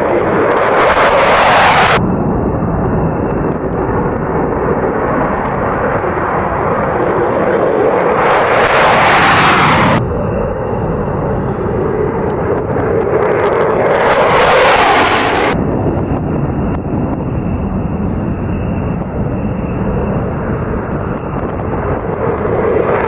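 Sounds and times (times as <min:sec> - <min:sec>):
military jet engines roaring: 0:00.0 - 0:23.0.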